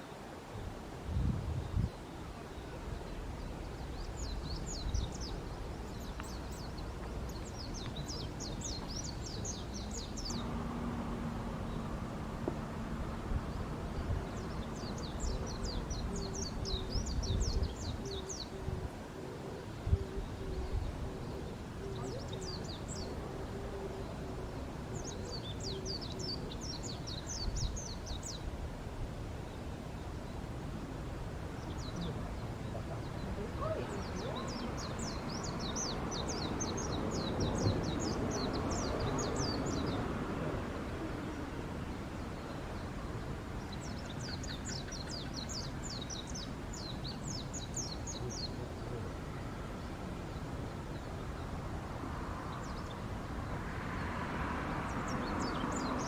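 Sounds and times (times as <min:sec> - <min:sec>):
low outdoor rumble: 0:00.6 - 0:53.7.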